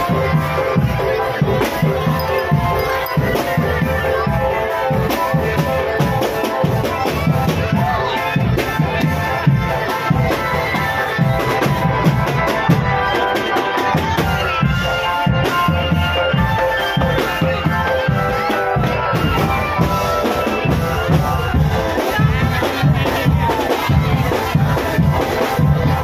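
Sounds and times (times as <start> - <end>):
marching drum band playing: 0.0 - 26.0.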